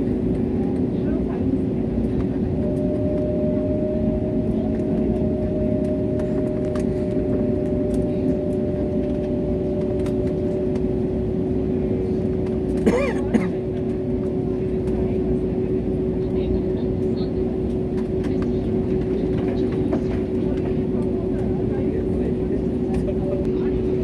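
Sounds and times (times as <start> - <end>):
airliner engine drone: 0.0 - 24.0
constant low hum tone: 0.0 - 24.0.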